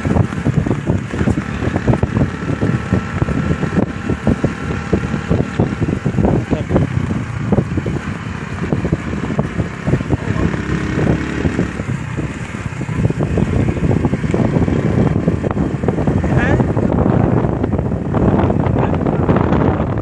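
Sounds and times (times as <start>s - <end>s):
moving vehicle rumble: 0.0s - 20.0s
wind buffeting microphone: 0.0s - 20.0s.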